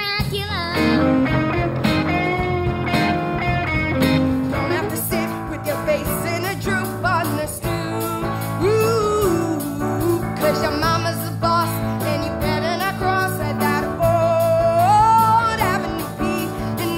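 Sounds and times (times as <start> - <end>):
girl singing: 0.0 - 1.4, 4.6 - 16.9
band accompaniment: 0.0 - 16.9.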